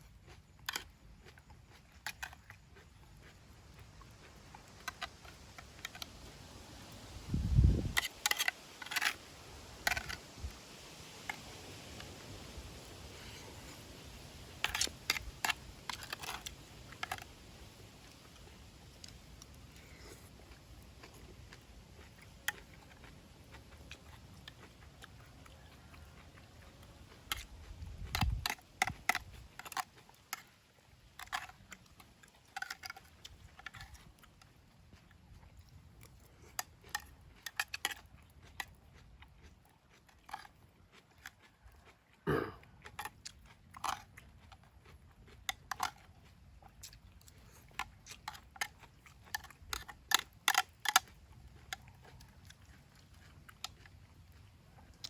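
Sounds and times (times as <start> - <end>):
person crunching and chewing: 0.0 - 55.0.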